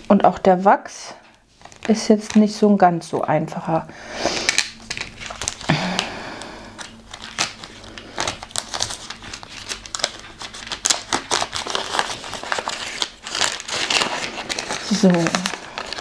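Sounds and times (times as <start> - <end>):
packaging crinkling and rustling: 1.5 - 2.8, 4.3 - 16.0.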